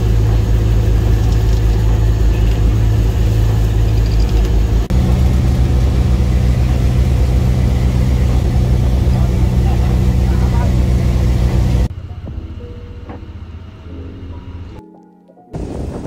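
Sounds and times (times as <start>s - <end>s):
engine humming steadily: 0.0s - 14.8s.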